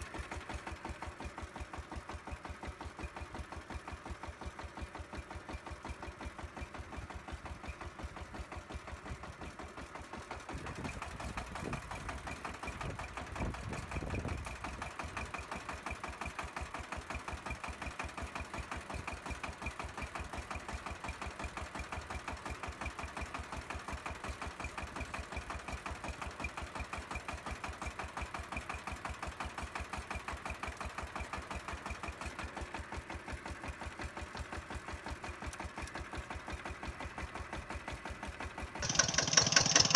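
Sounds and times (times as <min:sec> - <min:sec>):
small motor with rhythmic knock: 0:00.0 - 0:39.9.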